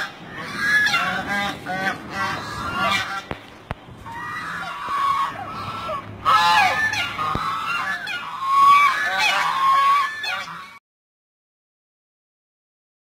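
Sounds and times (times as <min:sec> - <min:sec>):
geese honking: 0:00.0 - 0:10.8.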